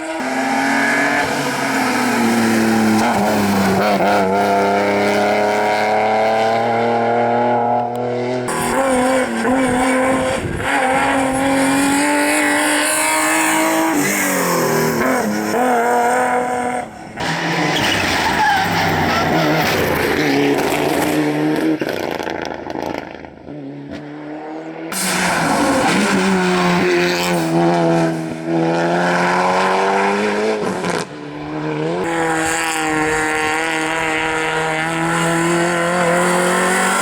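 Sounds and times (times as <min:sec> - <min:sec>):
rally car engines at high revs: 0:00.0 - 0:37.0.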